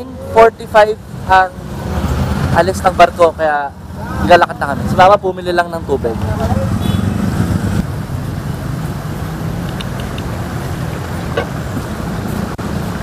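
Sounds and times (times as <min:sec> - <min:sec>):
passing vehicles rumbling: 0:00.0 - 0:13.0.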